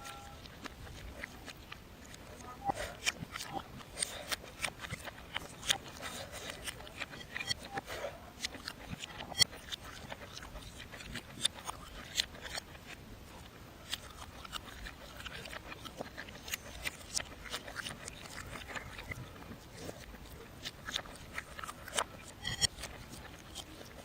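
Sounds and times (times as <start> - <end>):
reversed eating sounds clicking: 0.0 - 24.0.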